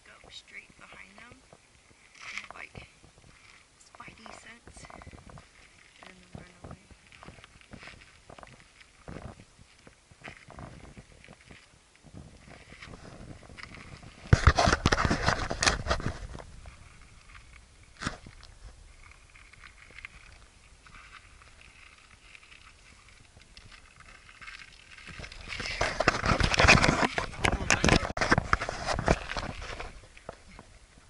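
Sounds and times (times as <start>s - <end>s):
footsteps crunching on gravel: 4.0s - 30.7s.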